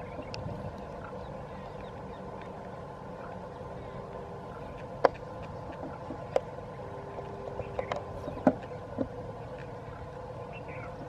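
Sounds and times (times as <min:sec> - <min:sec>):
diesel locomotive engine hum: 0:00.0 - 0:11.0.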